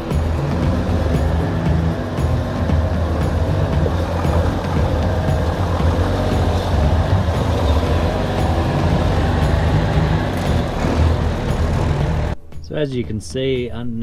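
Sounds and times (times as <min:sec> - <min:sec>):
diesel truck engine rumbling: 0:00.0 - 0:12.4.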